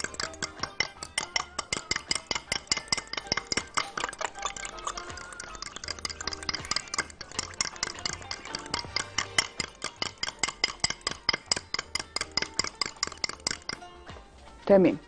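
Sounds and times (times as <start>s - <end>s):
fork beating eggs in glass jug: 0.0s - 14.0s.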